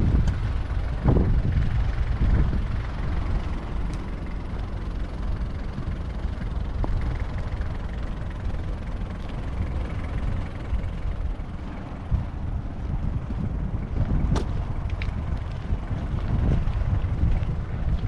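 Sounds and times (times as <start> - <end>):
harbourside ambience: 0.0 - 18.0
wind buffeting microphone: 0.0 - 18.0.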